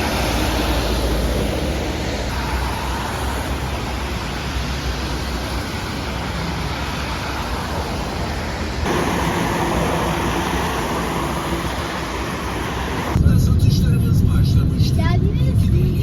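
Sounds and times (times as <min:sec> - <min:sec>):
vehicle road noise: 0:00.0 - 0:16.0.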